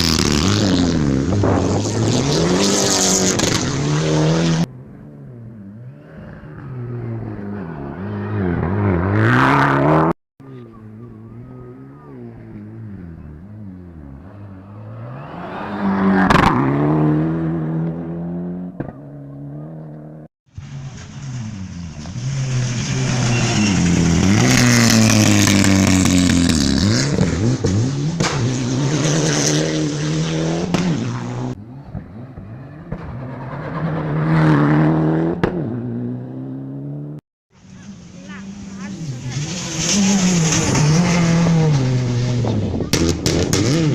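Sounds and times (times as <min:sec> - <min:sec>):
rally cars passing at speed: 0:00.0 - 0:43.9.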